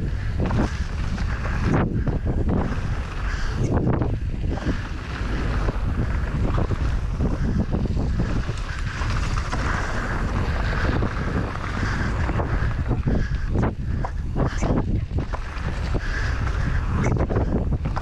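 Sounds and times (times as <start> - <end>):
bike rattles and knocks: 0.0 - 18.0
wind rushing over microphone: 0.0 - 18.0
tyres rolling on dirt: 0.1 - 18.0.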